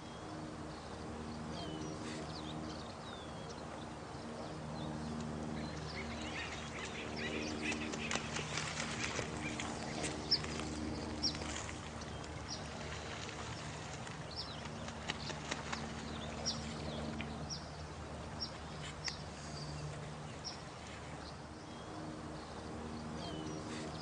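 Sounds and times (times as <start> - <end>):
low steady hum: 0.0 - 24.0
running water: 2.2 - 23.0.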